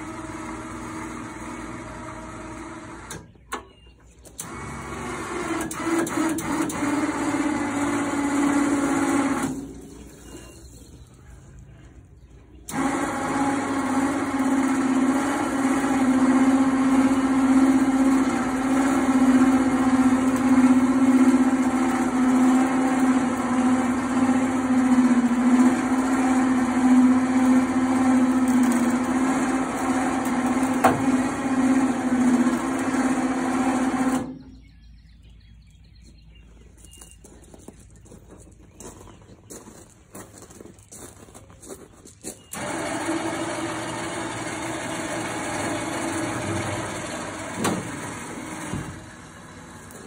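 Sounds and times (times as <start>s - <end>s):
crane lift motor humming: 0.0s - 35.8s, 42.5s - 50.0s.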